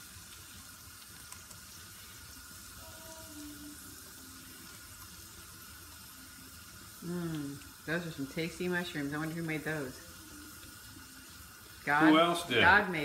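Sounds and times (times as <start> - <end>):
onions and mushrooms sizzling: 0.0 - 13.0.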